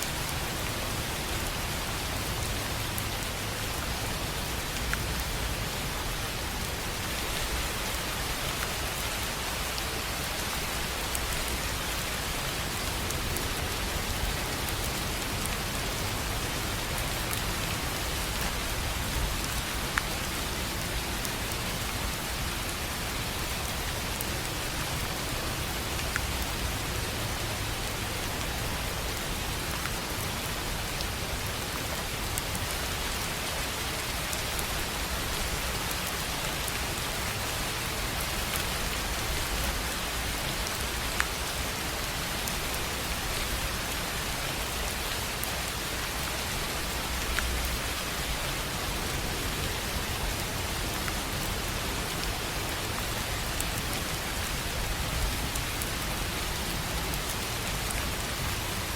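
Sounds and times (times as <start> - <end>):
rain on a tin roof: 0.0 - 58.9.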